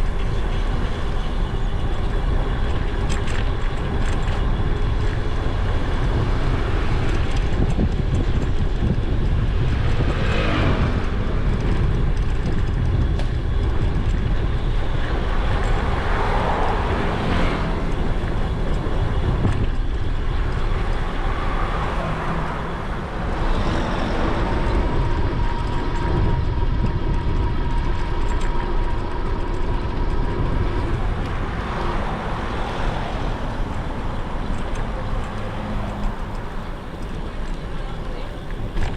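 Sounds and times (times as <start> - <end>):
steady whine: 0.0 - 38.9
vehicles passing: 0.0 - 38.9
wind rumbling on microphone: 0.0 - 38.9.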